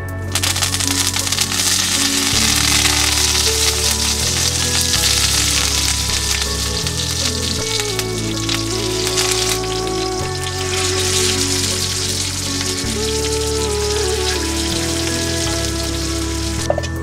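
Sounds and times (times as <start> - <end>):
soft background music: 0.0 - 17.0
hot oil sizzling and crackling: 0.3 - 17.0.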